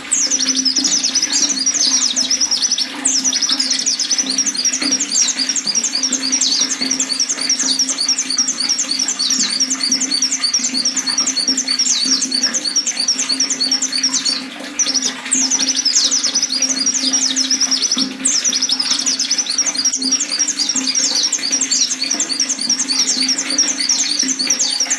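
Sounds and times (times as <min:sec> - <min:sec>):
bird twittering song: 0:00.0 - 0:24.9.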